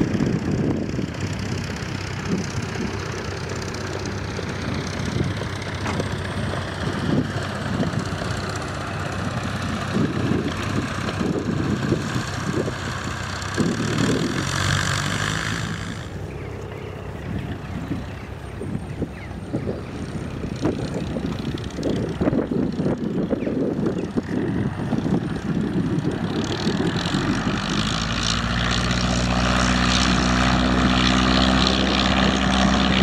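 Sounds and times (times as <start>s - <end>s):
biplane engine droning: 0.0s - 33.0s
wind buffeting on microphone: 0.0s - 33.0s.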